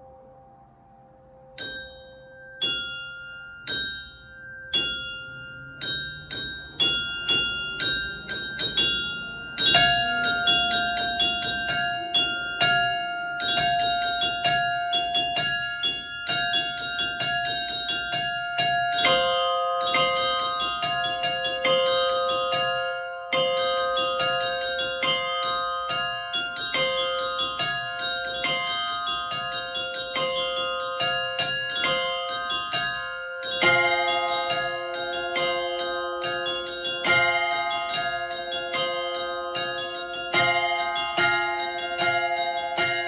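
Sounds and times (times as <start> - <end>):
low church bell: 0.0 - 43.0
small church bell striking: 0.0 - 43.0
large church bells pealing: 4.7 - 43.0.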